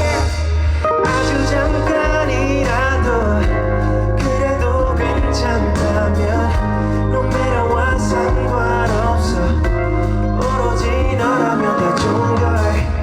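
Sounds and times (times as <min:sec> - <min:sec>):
bass: 0:00.0 - 0:13.0
drums: 0:00.0 - 0:13.0
live band playing: 0:00.0 - 0:13.0.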